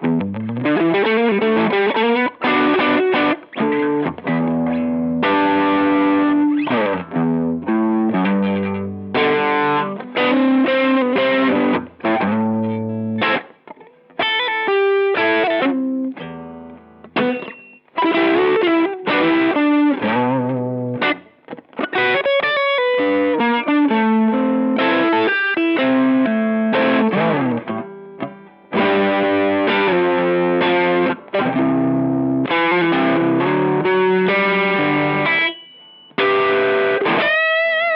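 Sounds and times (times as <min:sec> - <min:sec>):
overdriven electric guitar: 0:00.0 - 0:37.9.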